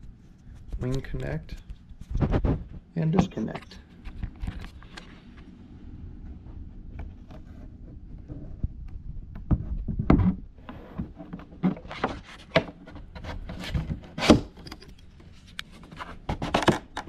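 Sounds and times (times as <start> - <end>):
scraping and rustling: 0.0 - 5.5, 6.2 - 17.0.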